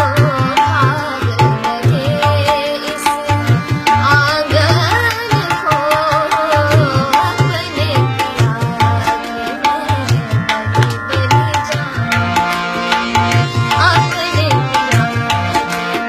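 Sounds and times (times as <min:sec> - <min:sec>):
woman singing: 0:00.0 - 0:15.6
harmonium chords: 0:00.0 - 0:16.0
tabla playing: 0:00.0 - 0:16.0.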